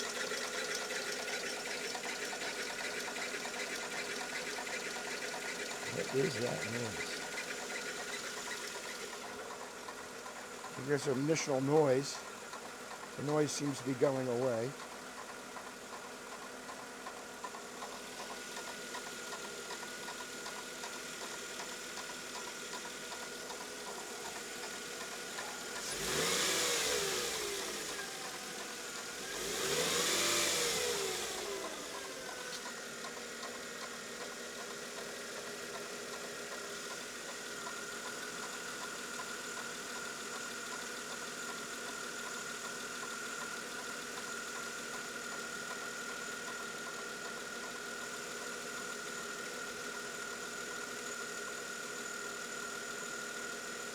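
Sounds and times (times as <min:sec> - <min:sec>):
car engine idling and revving: 0:00.0 - 0:11.3, 0:14.2 - 0:48.0.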